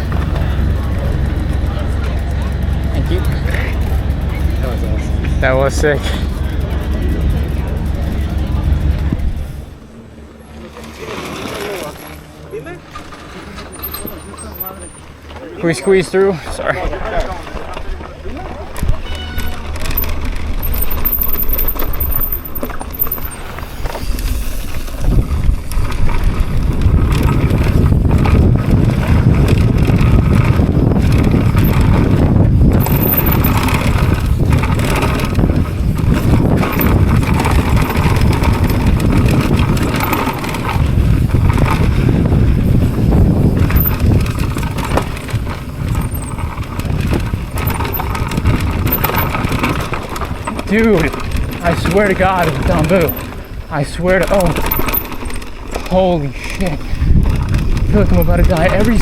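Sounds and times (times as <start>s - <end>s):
bike knocking and rattling: 0.0s - 59.0s
wind and tyres rushing: 0.0s - 59.0s.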